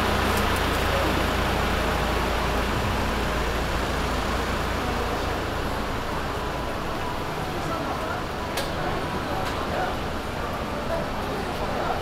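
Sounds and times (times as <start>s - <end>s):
street traffic noise: 0.0s - 12.0s
vehicle engine rumble: 0.0s - 12.0s.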